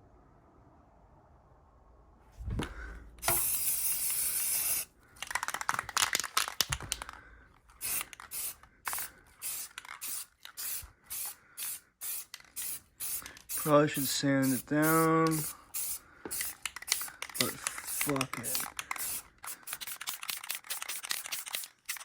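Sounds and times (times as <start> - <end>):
spray can spraying: 3.2 - 7.0, 7.8 - 22.0
spray can rattling: 3.2 - 22.0.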